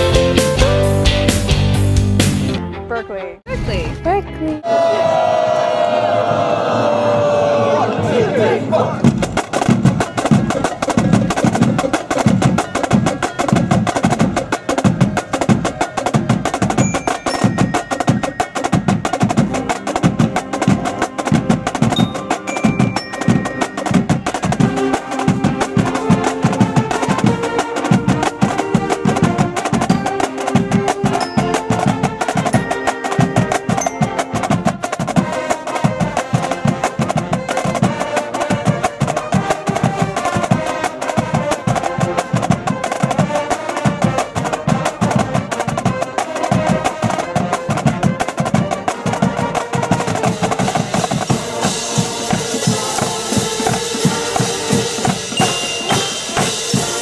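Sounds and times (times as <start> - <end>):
held brass notes: 2.5 - 57.0
drumline playing a cadence: 4.6 - 57.0.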